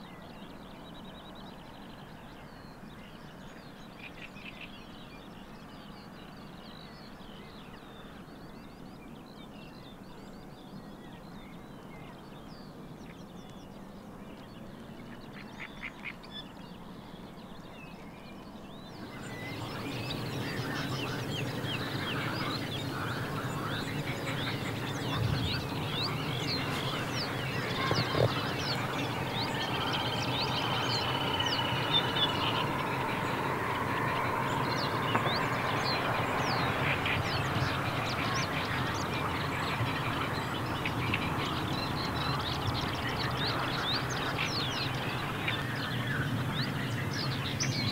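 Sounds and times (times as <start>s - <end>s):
wetland birds calling and singing: 0.1s - 47.9s.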